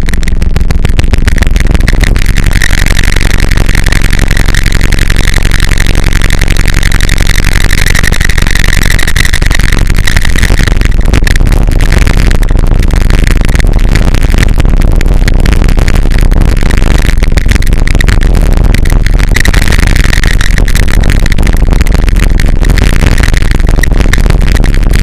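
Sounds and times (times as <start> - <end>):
distorted crackle noise music: 0.0 - 25.0
high whine: 0.0 - 25.0
low rumble: 0.0 - 25.0.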